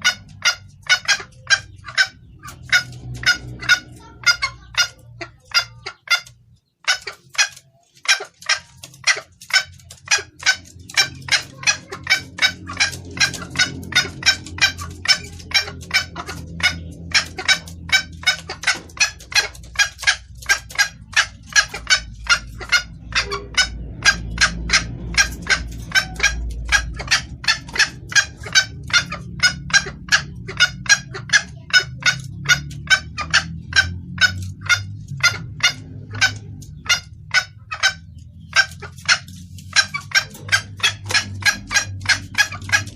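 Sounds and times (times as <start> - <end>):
junglefowl hen calling: 0.0 - 42.9.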